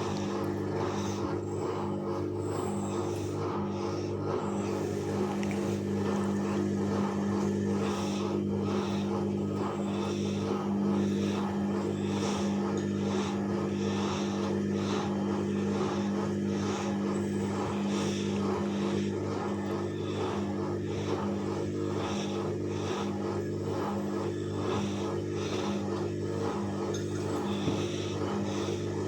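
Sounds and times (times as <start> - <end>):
washing machine motor: 0.0 - 29.0.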